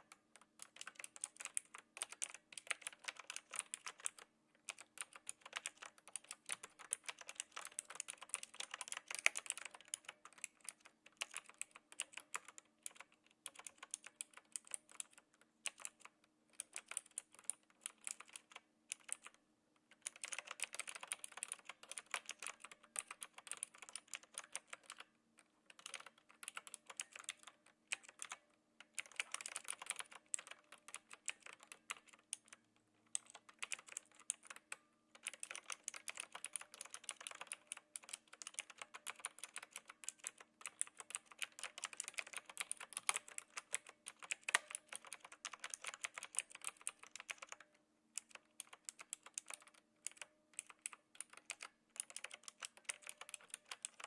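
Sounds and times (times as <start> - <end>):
mechanical keyboard key clicks: 0.0 - 19.4, 20.0 - 25.1, 25.7 - 54.0.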